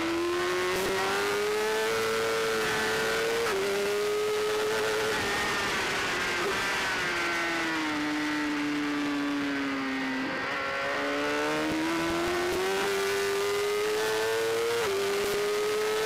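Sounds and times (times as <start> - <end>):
superbike engine at racing speed: 0.0 - 16.0.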